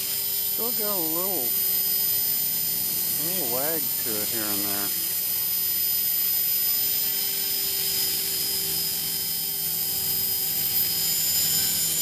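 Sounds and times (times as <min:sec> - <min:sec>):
high-pitched motor whine: 0:00.0 - 0:12.0
rotor blades humming: 0:00.0 - 0:12.0.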